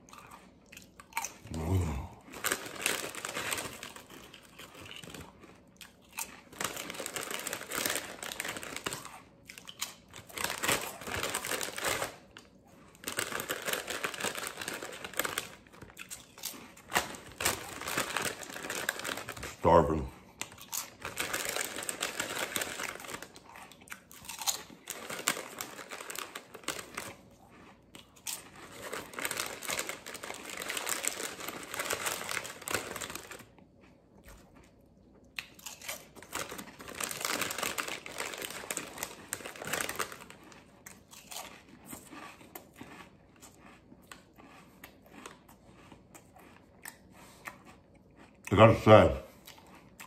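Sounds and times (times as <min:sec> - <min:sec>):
chips being chewed: 0:00.0 - 0:50.0
plastic snack bag crinkling: 0:00.4 - 0:33.6, 0:35.4 - 0:46.5.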